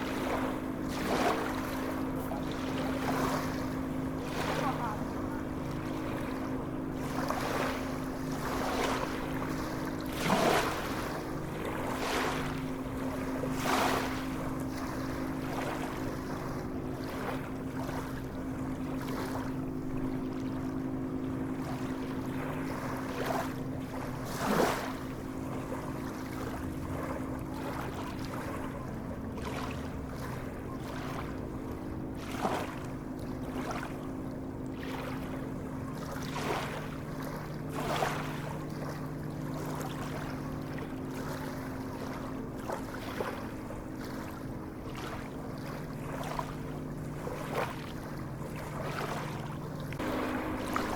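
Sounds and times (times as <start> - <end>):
sea waves splashing: 0.0 - 50.9
steady low hum: 0.0 - 50.9.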